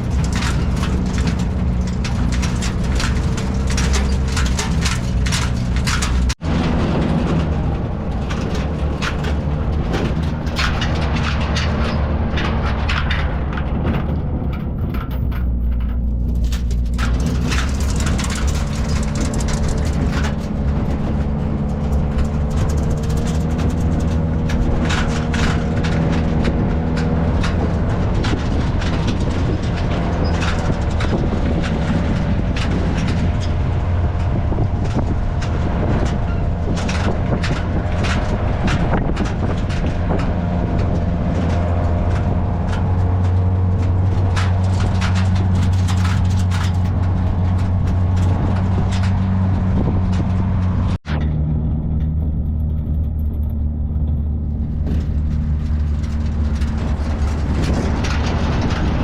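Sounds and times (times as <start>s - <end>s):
knocks and rattles: 0.0s - 59.0s
vehicle engine running: 0.0s - 59.0s.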